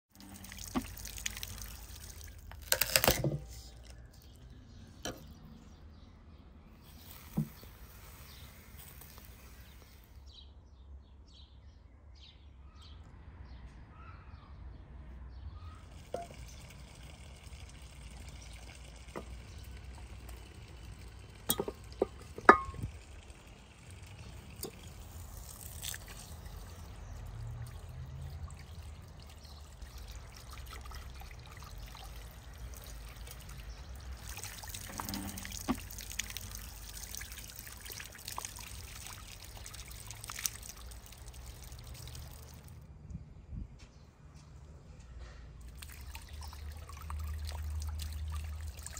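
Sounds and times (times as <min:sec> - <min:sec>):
water pouring and trickling: 0:00.1 - 0:06.0, 0:06.7 - 0:10.3, 0:15.6 - 0:42.9, 0:45.6 - 0:48.9.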